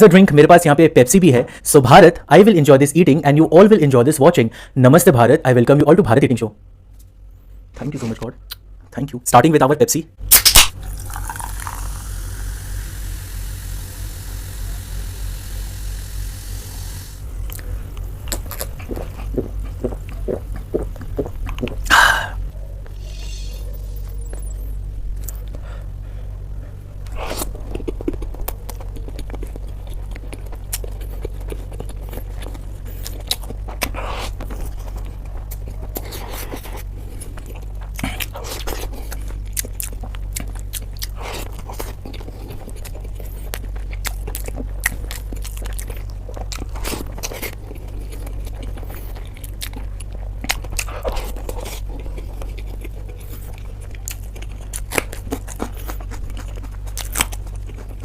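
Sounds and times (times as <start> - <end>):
steady low hum: 0.0 - 58.0
person chewing and crunching: 10.3 - 58.0.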